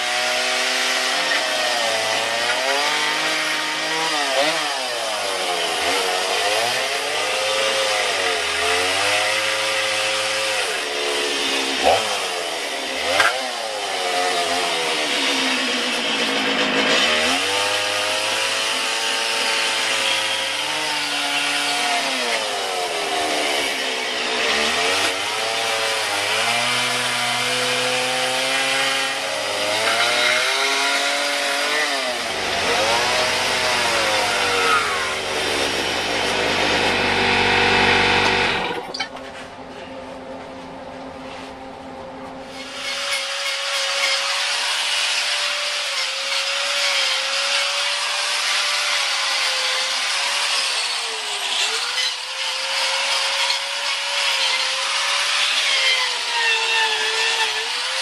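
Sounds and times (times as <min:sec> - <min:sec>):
chainsaw cutting into wood: 0:00.0 - 0:39.0, 0:42.5 - 0:58.0
electric grinder whining: 0:00.0 - 0:39.1, 0:42.5 - 0:58.0.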